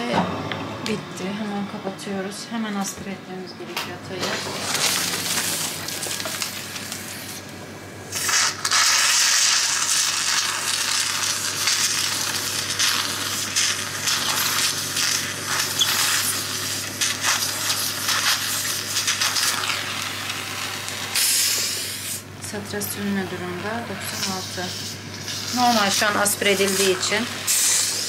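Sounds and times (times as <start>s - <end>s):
suction machine humming: 0.0s - 28.0s.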